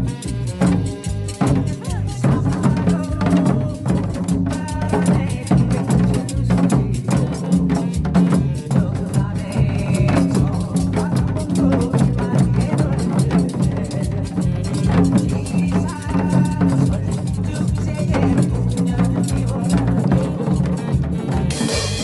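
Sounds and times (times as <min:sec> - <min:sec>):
backing music: 0:00.0 - 0:22.0.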